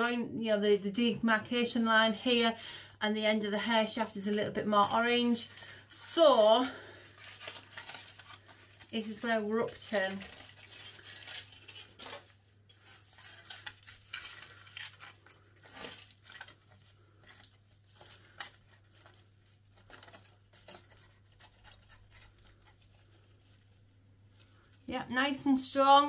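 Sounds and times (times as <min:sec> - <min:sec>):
aluminium foil crinkling: 0:03.7 - 0:25.8.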